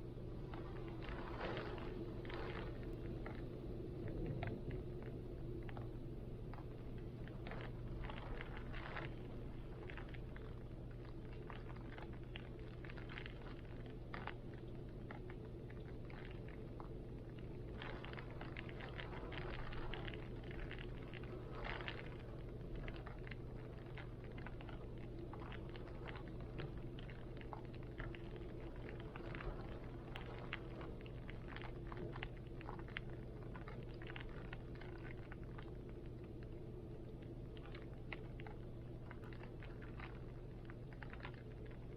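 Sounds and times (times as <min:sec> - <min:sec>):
low wind rumble: 0:00.0 - 0:41.9
rain pattering: 0:00.0 - 0:41.9.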